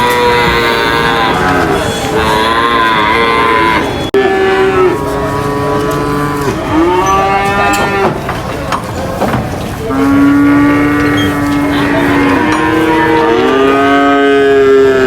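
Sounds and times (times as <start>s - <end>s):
cattle mooing: 0.0s - 15.0s.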